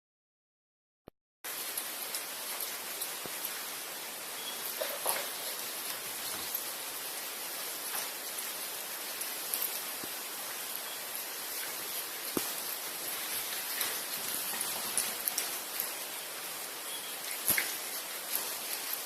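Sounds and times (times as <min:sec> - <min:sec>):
steady hiss: 0:01.5 - 0:19.0.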